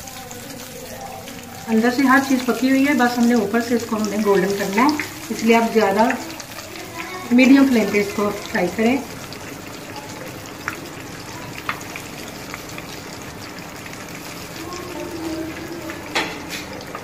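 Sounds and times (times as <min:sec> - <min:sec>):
deep-frying sizzle in oil: 0:00.0 - 0:17.0.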